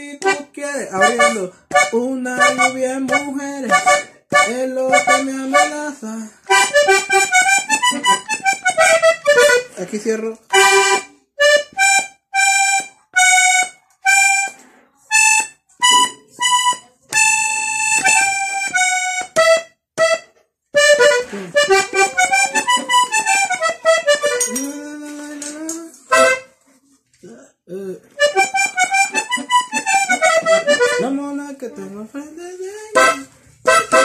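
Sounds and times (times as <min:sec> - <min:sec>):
button accordion melody: 0:00.0 - 0:25.4, 0:26.1 - 0:26.5, 0:28.1 - 0:32.2, 0:32.8 - 0:34.0.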